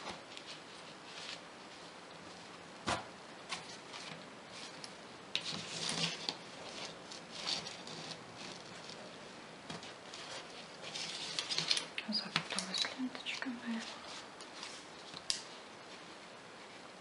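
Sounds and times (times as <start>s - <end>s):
ribbon and fabric rustling: 2.9s - 16.8s.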